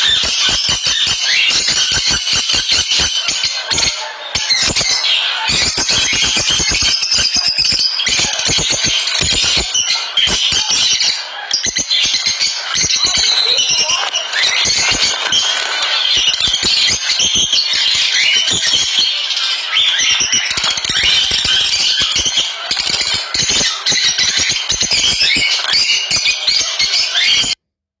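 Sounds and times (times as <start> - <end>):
birds chirping and squawking: 0.0 - 27.6.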